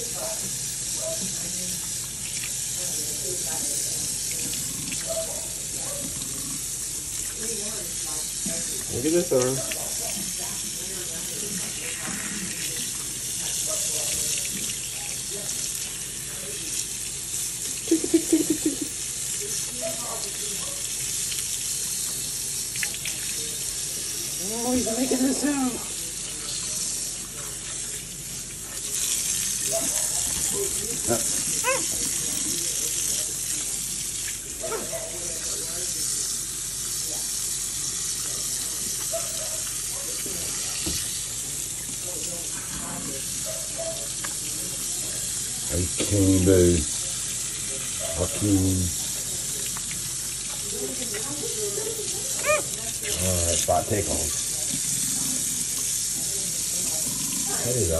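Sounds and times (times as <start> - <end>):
faucet running into sink: 0.0 - 57.9.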